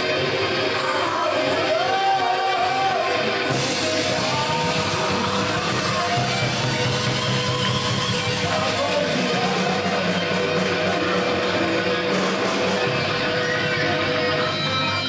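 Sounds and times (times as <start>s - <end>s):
electric guitar: 0.0s - 15.0s
live blues band: 0.0s - 15.0s.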